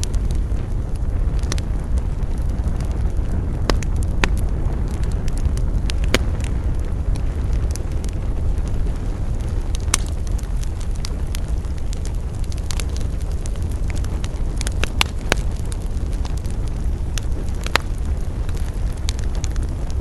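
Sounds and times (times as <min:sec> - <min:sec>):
burning wood popping: 0:00.0 - 0:20.0
campfire crackling: 0:00.0 - 0:20.0
steady low rumble: 0:00.0 - 0:20.0.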